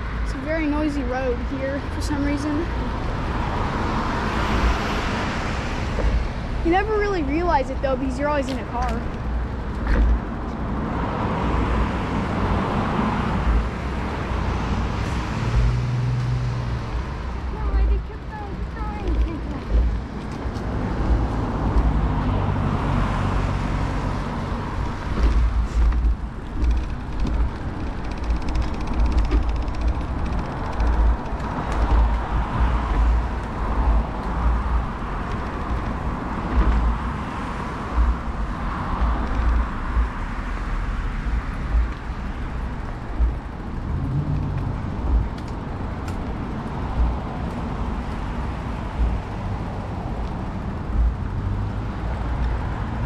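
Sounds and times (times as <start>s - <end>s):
cars passing: 0.0s - 53.0s
wind buffeting microphone: 0.0s - 53.0s.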